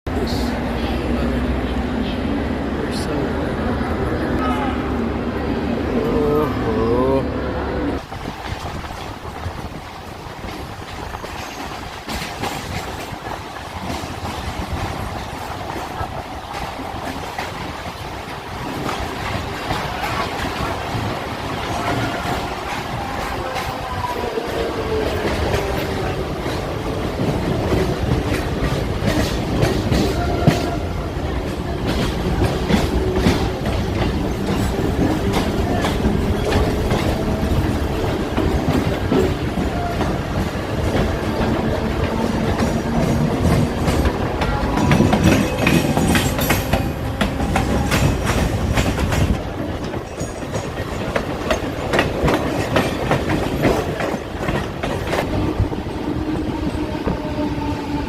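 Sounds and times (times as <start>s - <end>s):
train rumbling on track: 0.0s - 58.0s
wheels clacking over rail joints: 8.0s - 58.0s.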